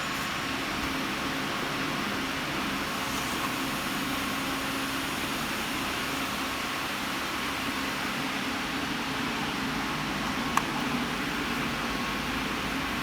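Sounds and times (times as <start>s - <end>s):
lid-closing machine humming and hissing: 0.0s - 13.0s.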